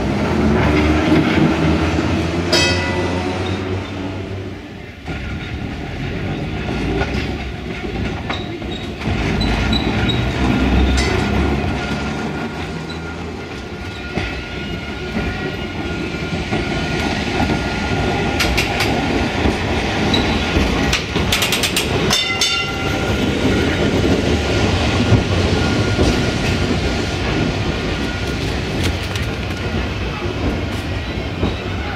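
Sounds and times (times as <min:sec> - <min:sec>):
steel wheels rumbling on rails: 0:00.0 - 0:31.9.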